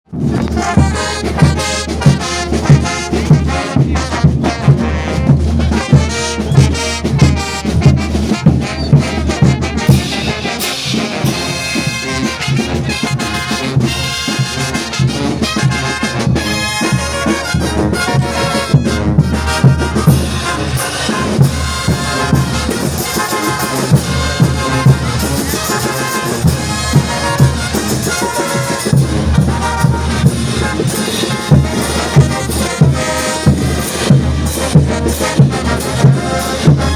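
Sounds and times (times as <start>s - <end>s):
brass band playing: 0.1s - 36.9s.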